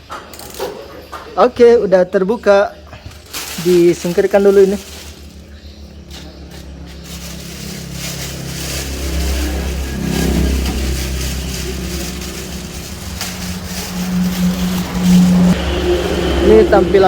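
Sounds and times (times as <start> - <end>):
engine humming: 2.4 - 17.0.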